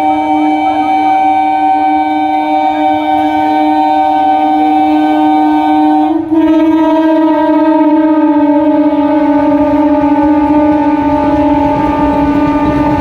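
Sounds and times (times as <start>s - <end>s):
train air horn blowing: 0.0s - 13.0s.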